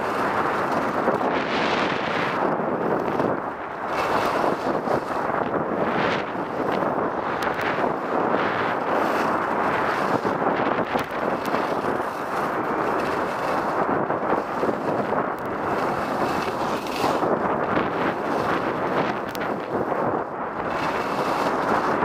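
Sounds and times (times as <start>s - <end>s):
skis scraping on snow: 0.0s - 22.0s
wind rushing over microphone: 0.0s - 22.0s.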